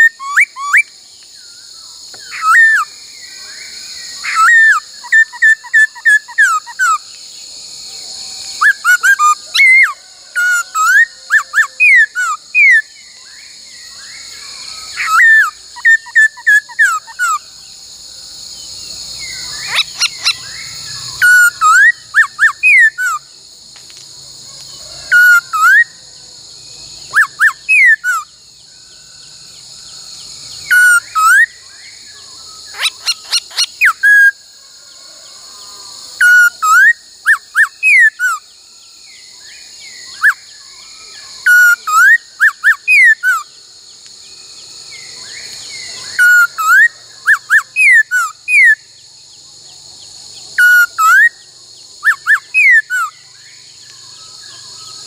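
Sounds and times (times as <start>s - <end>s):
insects hissing: 0.0s - 55.0s.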